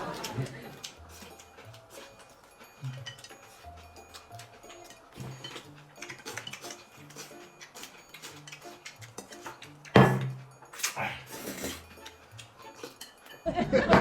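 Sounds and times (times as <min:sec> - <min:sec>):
clinking dishes and cutlery: 0:00.0 - 0:14.0
soft background music: 0:00.0 - 0:14.0.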